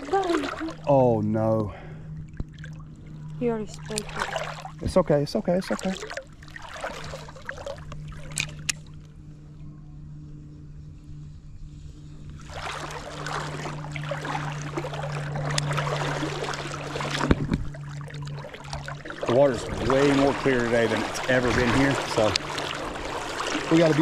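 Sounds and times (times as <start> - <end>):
creek water trickling: 0.0 - 9.1, 12.3 - 24.0
low steady hum: 0.0 - 24.0.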